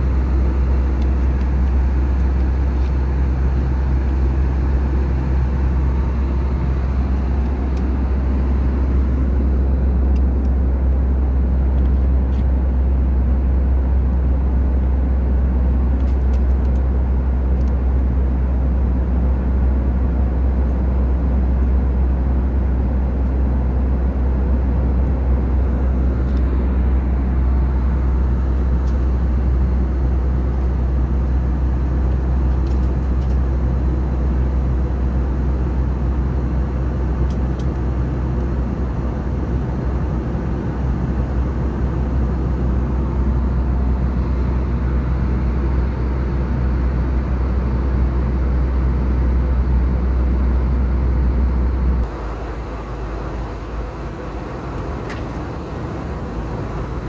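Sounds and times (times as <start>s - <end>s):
air rushing along fuselage: 0.0s - 12.2s, 20.9s - 57.0s
deep engine rumble: 0.0s - 57.0s.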